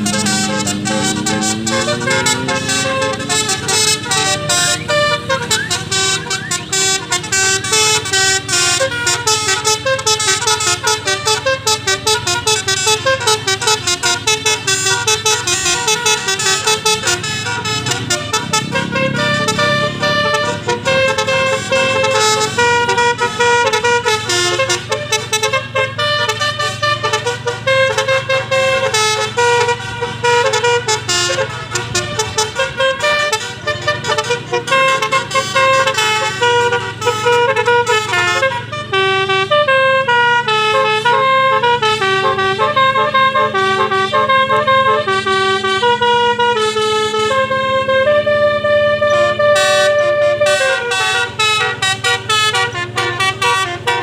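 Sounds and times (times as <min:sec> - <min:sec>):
multi-tone vehicle horn tune: 0:00.0 - 0:54.0.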